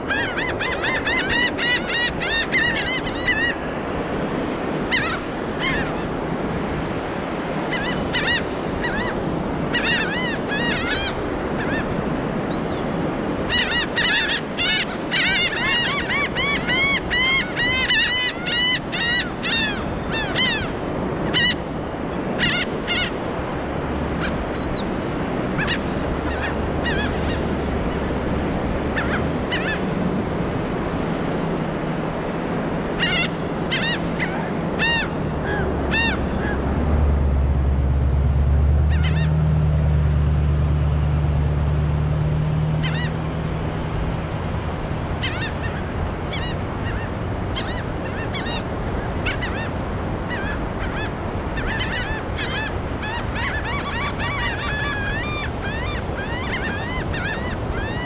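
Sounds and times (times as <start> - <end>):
gulls laughing calls: 0.0 - 58.0
surf: 0.0 - 58.0.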